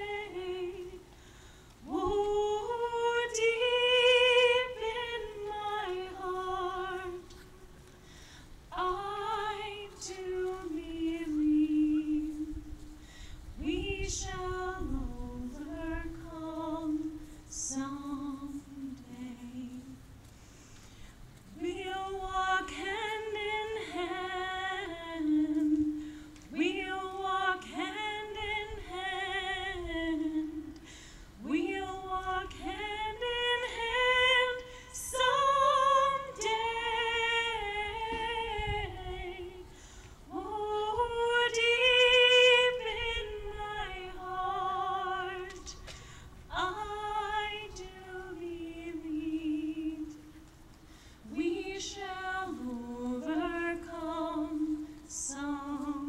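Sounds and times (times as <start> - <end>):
woman singing: 0.0 - 1.2, 1.8 - 7.8, 8.7 - 13.0, 13.6 - 20.1, 21.5 - 50.5, 51.2 - 56.0.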